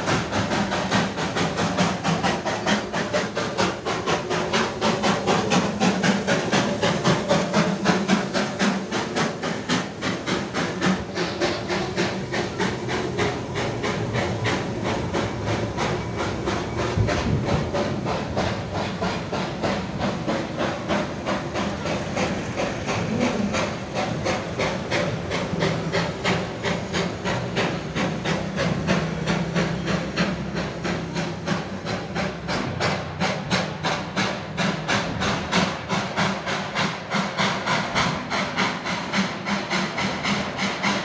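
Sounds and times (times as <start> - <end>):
hiss of steam: 0.0 - 41.0
steam locomotive chuffing: 0.0 - 41.0.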